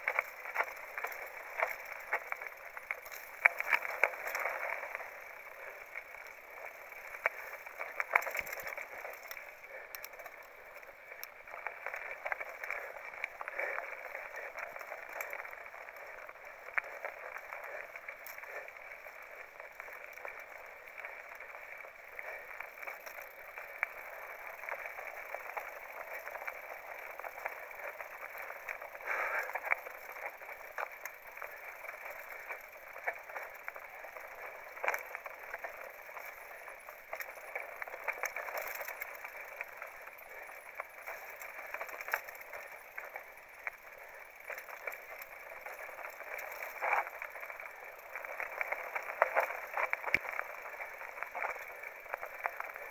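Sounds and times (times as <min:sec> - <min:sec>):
tyre noise on trail: 0:00.0 - 0:52.9.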